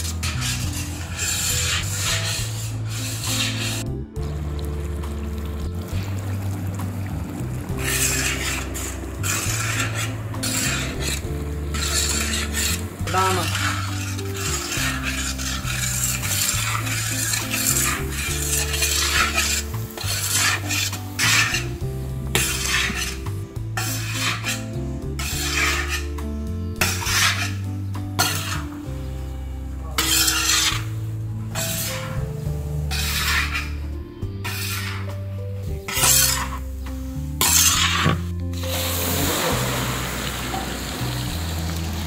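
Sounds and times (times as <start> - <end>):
spatula scraping steel pan: 0.0 - 3.9, 7.7 - 29.0, 29.9 - 39.6.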